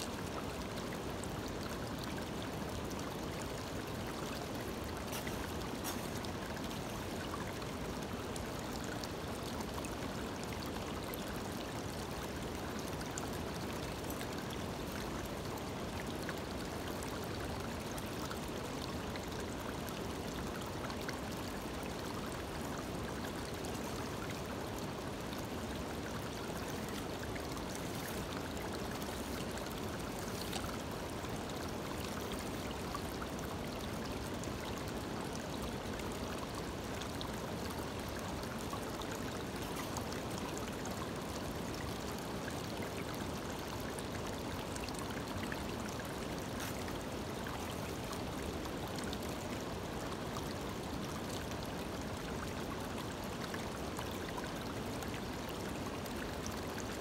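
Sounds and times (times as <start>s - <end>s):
creek water running over stones: 0.0s - 57.0s.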